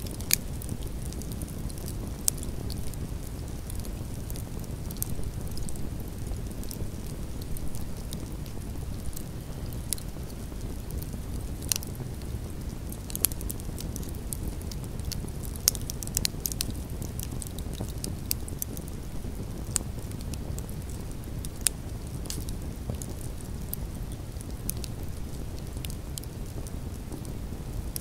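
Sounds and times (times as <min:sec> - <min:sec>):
campfire flames rushing: 0:00.0 - 0:28.0
logs crackling and popping: 0:00.0 - 0:28.0.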